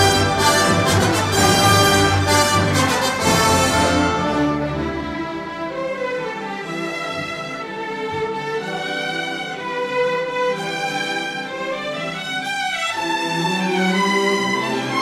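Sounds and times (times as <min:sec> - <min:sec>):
orchestral strings melody: 0:00.0 - 0:15.0.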